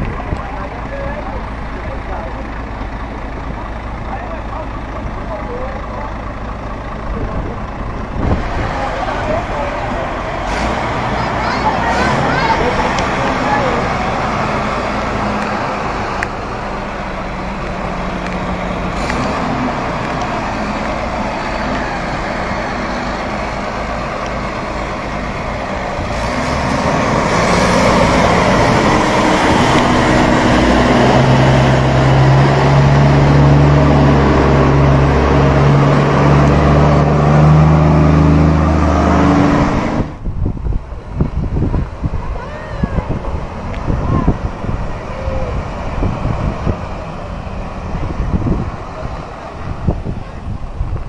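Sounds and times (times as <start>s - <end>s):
heavy diesel engines under load: 0.0s - 51.0s.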